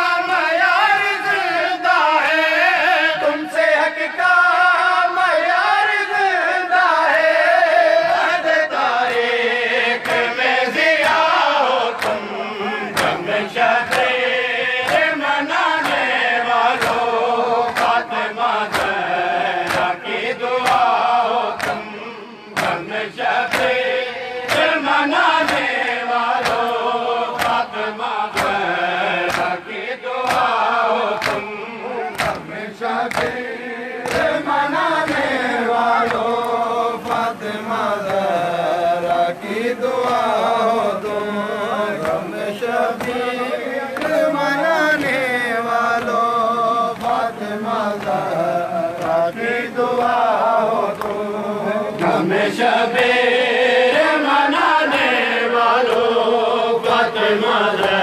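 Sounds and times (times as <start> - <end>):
men chanting in unison: 0.0 - 58.0
hand strikes keeping beat: 9.0 - 58.0.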